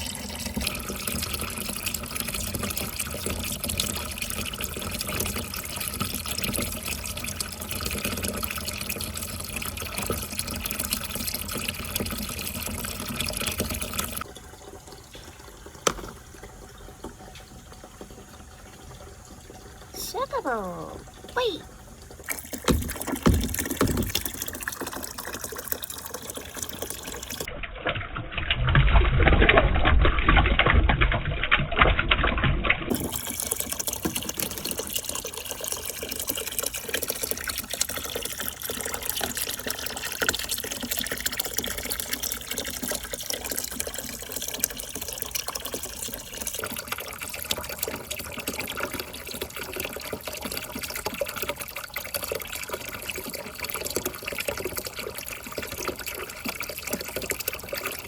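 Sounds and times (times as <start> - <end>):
water running through marble run: 0.0 - 58.0.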